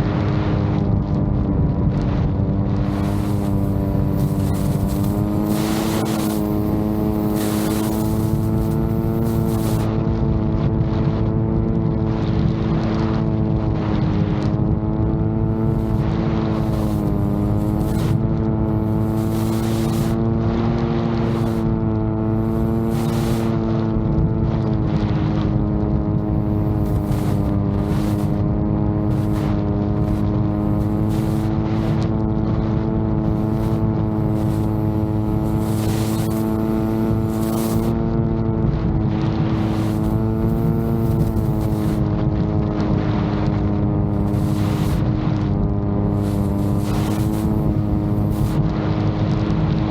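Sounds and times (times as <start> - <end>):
wind buffeting microphone: 0.0 - 20.2, 21.1 - 49.9
drone propellers droning: 0.0 - 49.9.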